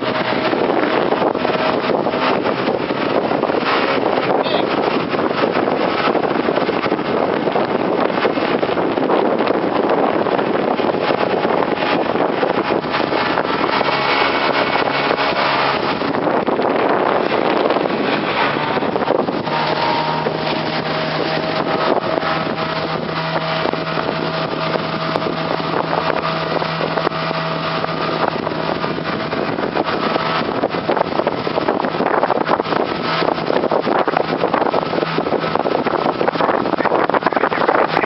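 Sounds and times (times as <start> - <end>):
motorboat engine hum: 0.0 - 38.0
wind rushing over microphone: 0.0 - 38.0.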